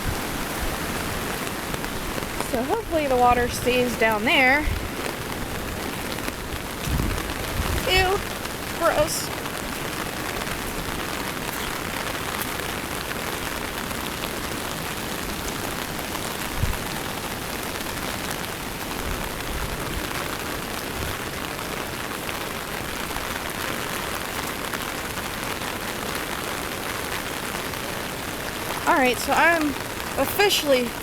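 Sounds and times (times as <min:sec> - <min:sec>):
rain falling: 0:00.0 - 0:31.0.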